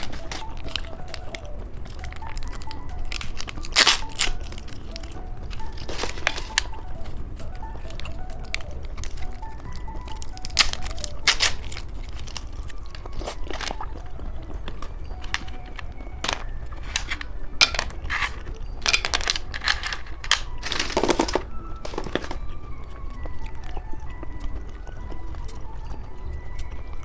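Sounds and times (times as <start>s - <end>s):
snack wrappers crinkling: 0.0s - 27.0s
steady low hum: 0.0s - 27.0s.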